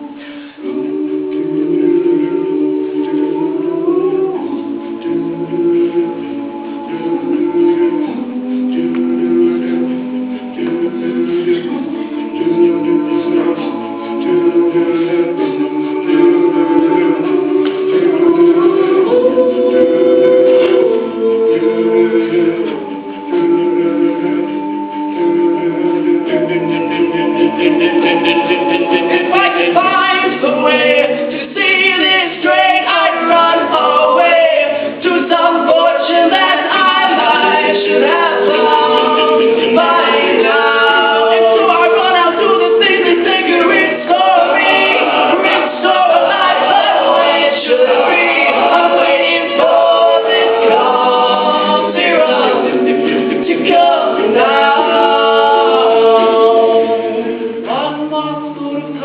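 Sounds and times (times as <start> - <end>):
a cappella group singing harmony: 0.0 - 59.0.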